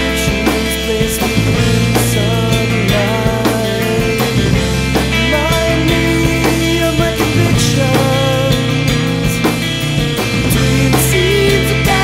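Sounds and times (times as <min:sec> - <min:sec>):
punk rock band playing: 0:00.0 - 0:12.0.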